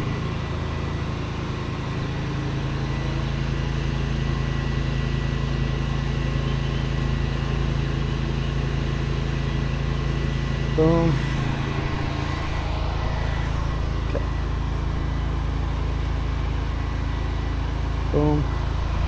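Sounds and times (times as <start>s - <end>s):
pressure washer engine humming: 0.0s - 19.0s.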